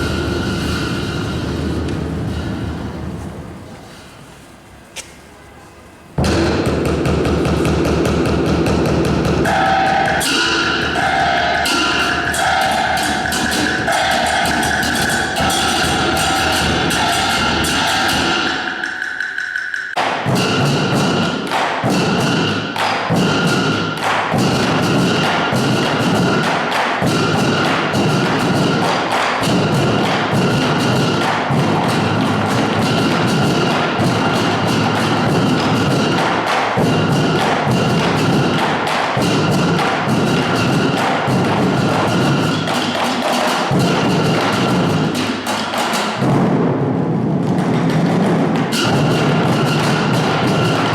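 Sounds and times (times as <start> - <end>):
sharp percussion strokes: 0.0 - 4.2, 6.2 - 50.9.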